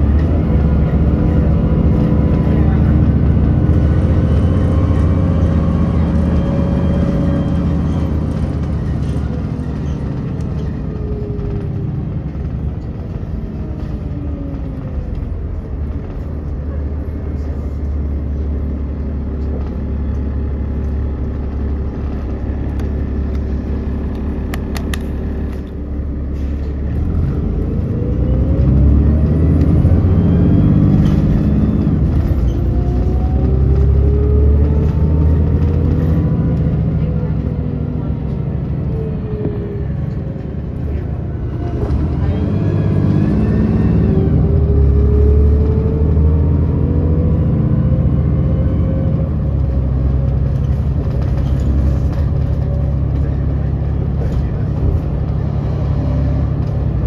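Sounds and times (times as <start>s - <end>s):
bus engine droning: 0.0s - 57.0s.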